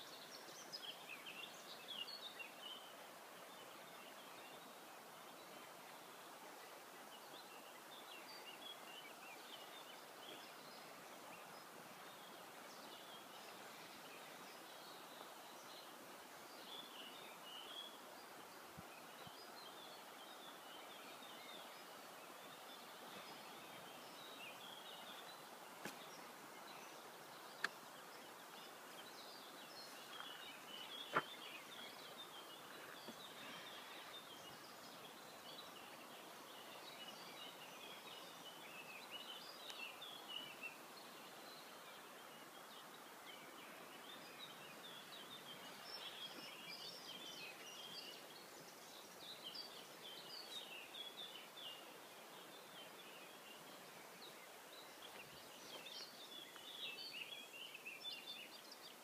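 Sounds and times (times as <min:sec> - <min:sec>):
faint bird chirping: 0:00.0 - 0:59.0.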